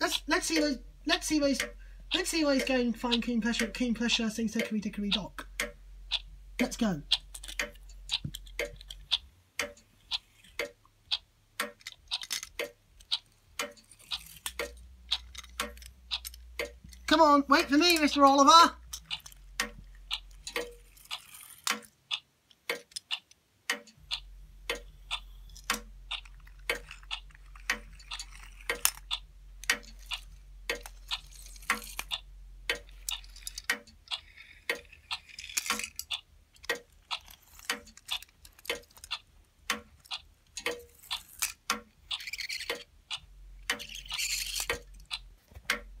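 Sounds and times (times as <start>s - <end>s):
clock ticking: 0.0s - 46.0s.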